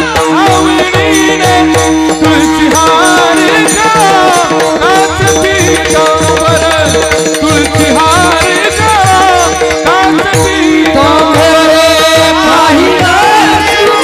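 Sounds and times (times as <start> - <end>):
drum strokes: 0.0 - 14.0
jingling hand cymbals: 0.0 - 14.0.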